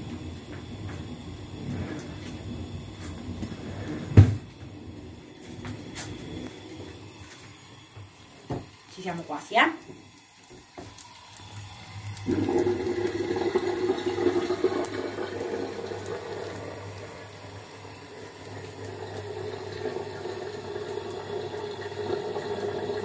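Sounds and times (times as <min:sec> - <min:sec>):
frying sizzle: 0:00.0 - 0:23.0.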